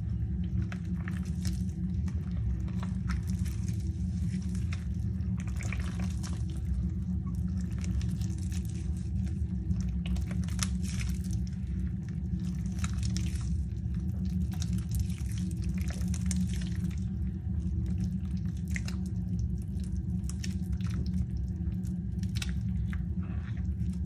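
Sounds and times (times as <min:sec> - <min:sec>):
steady low hum: 0:00.0 - 0:24.0
wet paste squelches: 0:00.0 - 0:24.0.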